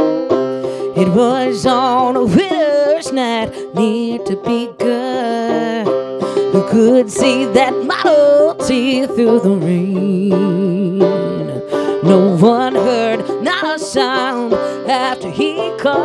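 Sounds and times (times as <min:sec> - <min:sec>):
open-back banjo playing: 0:00.0 - 0:16.0
woman singing: 0:00.8 - 0:16.0.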